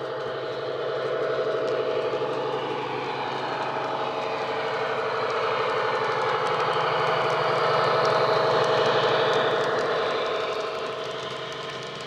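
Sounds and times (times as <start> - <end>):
model locomotive engine sound: 0.0 - 12.0.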